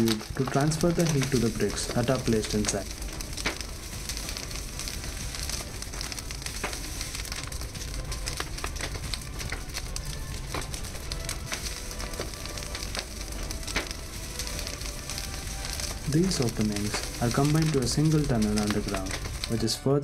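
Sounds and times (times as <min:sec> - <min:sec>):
rush of flame: 0:00.0 - 0:19.8
fire crackling and popping: 0:00.0 - 0:20.0.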